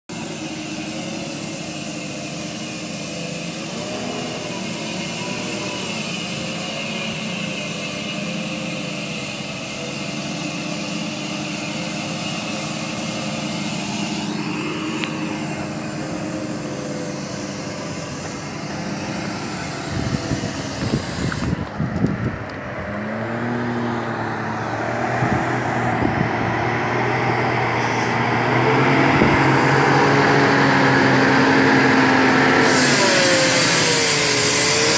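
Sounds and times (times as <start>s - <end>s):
truck diesel engines passing: 0.1s - 34.9s.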